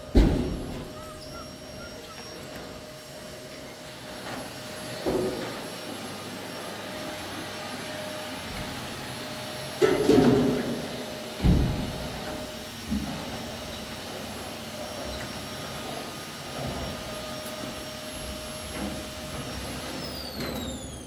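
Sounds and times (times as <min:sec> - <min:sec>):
vacuum cleaner motor whining: 0:00.0 - 0:21.0.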